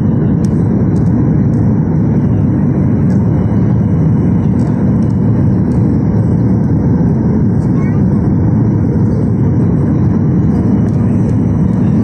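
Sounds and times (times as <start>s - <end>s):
jet engines and airflow rushing: 0.0s - 12.0s.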